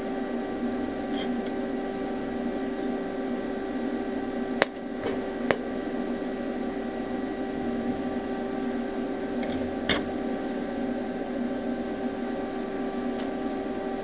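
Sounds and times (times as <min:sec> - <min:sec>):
machine hum with tones: 0:00.0 - 0:14.0.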